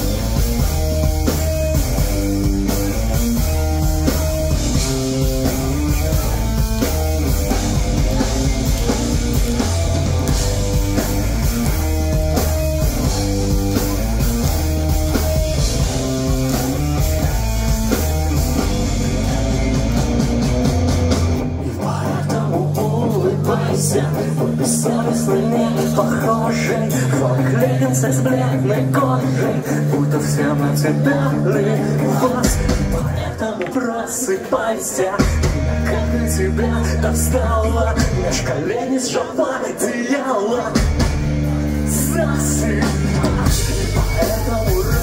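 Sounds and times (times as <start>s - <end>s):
bass guitar: 0.0s - 33.6s, 35.0s - 38.9s, 40.5s - 45.0s
drums: 0.0s - 45.0s
electric guitars: 0.0s - 45.0s.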